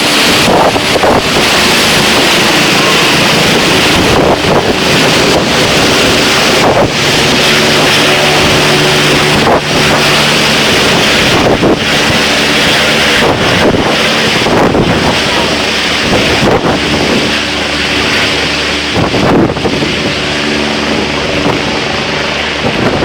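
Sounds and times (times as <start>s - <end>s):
helicopter engine and rotor: 0.0s - 23.0s
wind buffeting microphone: 0.0s - 23.0s.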